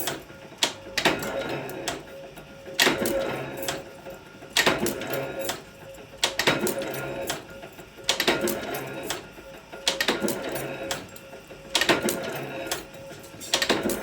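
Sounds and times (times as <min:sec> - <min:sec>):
machine clacking and rattling: 0:00.0 - 0:14.0.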